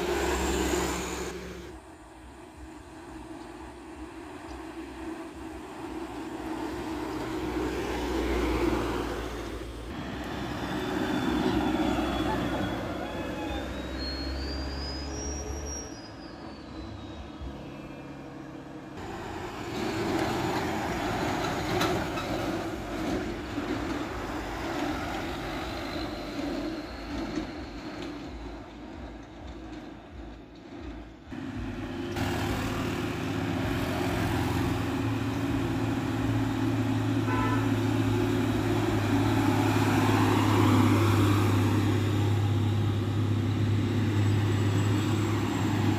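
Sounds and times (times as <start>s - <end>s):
diesel buses passing: 0.0s - 45.9s.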